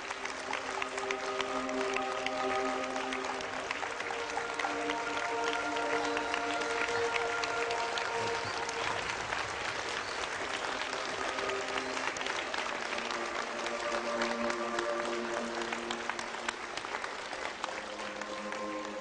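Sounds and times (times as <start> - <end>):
large audience applauding: 0.0 - 19.0
slow background music: 0.0 - 19.0.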